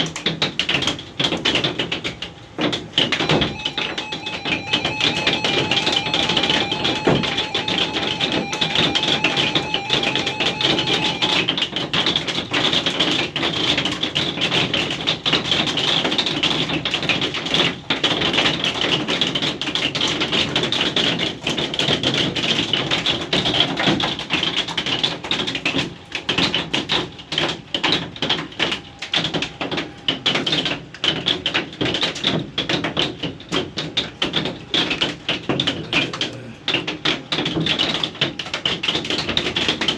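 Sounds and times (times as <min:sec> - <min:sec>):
hailstones on a hard surface: 0:00.0 - 0:03.9, 0:11.4 - 0:39.9.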